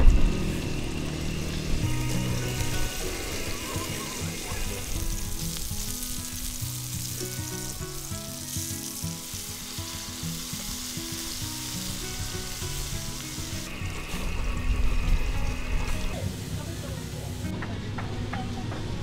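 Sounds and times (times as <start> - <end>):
soft background music: 0.0 - 19.0
hotdogs sizzling in a frying pan: 0.2 - 17.5.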